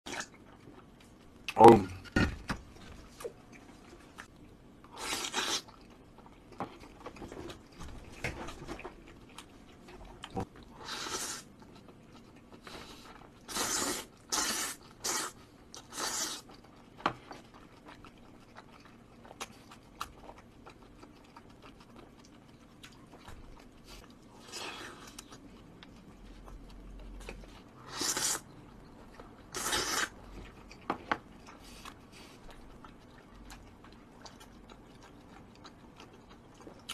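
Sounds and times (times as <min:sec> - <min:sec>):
chewing and smacking: 0:00.1 - 0:01.6, 0:02.5 - 0:10.7, 0:11.4 - 0:13.5, 0:14.1 - 0:36.9.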